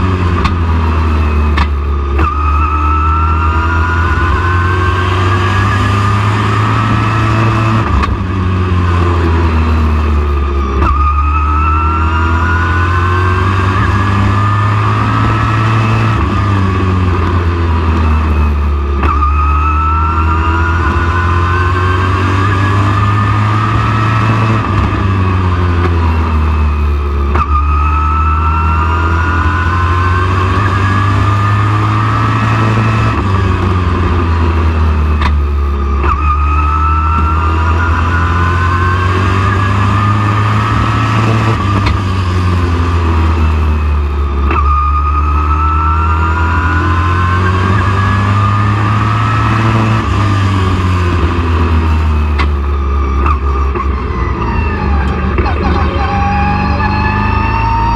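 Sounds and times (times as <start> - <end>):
race truck engine at full throttle: 0.0 - 57.9.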